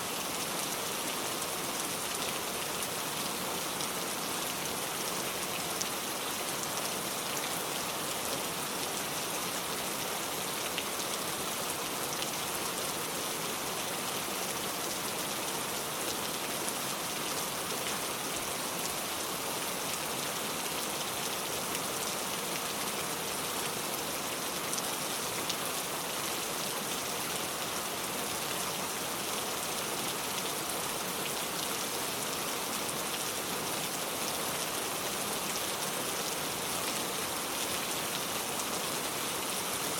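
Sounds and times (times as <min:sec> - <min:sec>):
rain pattering on a surface: 0:00.2 - 0:39.9.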